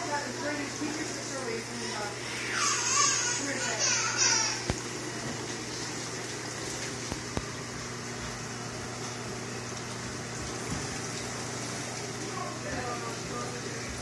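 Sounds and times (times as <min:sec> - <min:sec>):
low pump hum: 0:00.0 - 0:14.0.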